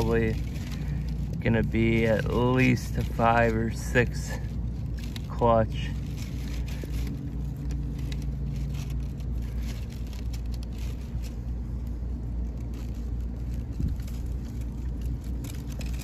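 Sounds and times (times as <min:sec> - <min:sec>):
fingers scratching dry sandy soil: 0:00.0 - 0:16.0
steady low rumble: 0:00.0 - 0:16.0.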